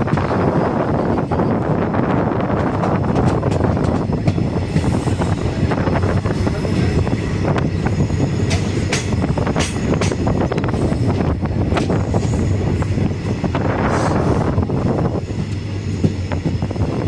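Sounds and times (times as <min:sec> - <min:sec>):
train wheels rumbling on rails: 0:00.0 - 0:17.0
sharp clicks of train wheels: 0:02.4 - 0:17.0.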